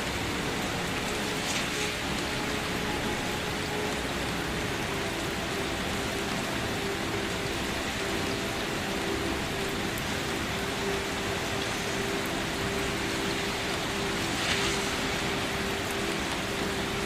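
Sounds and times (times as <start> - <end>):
gentle rain falling: 0.0 - 17.0.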